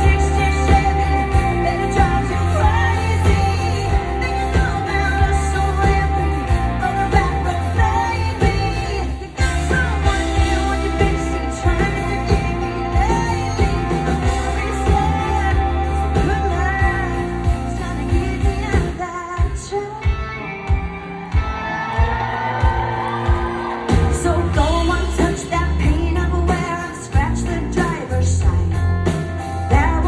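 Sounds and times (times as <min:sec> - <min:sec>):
woman singing: 0:00.0 - 0:20.5, 0:23.9 - 0:30.0
live country-pop band: 0:00.0 - 0:30.0.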